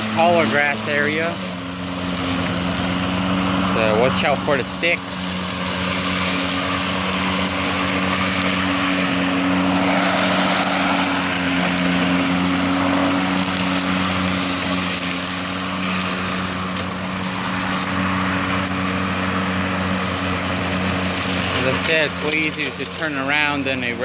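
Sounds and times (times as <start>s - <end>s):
electric lawn mower mowing grass: 0.0s - 24.0s.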